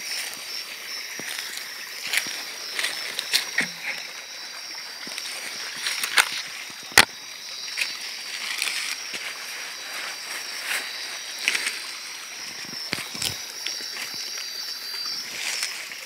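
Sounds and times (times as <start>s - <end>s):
footsteps crackling through dry leaves: 0.0s - 6.9s, 7.7s - 16.0s
night insects chorus: 0.0s - 16.0s.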